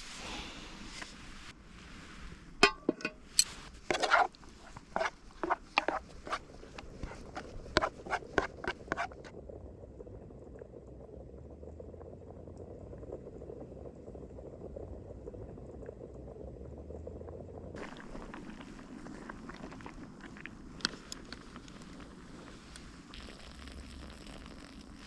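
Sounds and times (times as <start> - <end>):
water boiling in a pot: 0.0 - 25.0.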